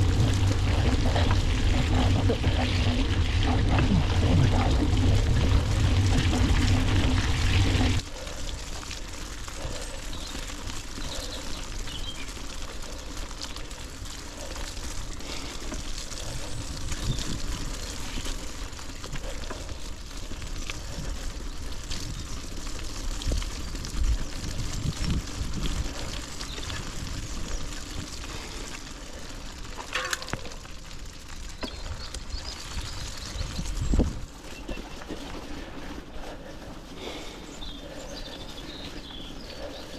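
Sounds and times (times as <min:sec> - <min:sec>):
bike tyres through mud: 0:00.0 - 0:39.9.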